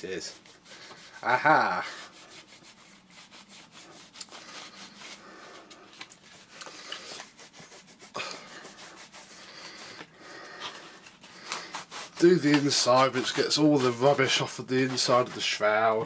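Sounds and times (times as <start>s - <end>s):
cloth wiping plastic: 0.0s - 16.0s.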